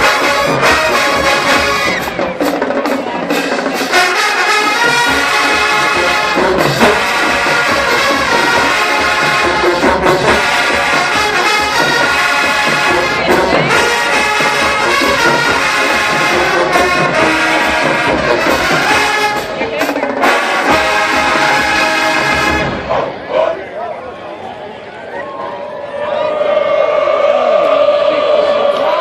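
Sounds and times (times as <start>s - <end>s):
marching band playing brass music: 0.0s - 23.6s.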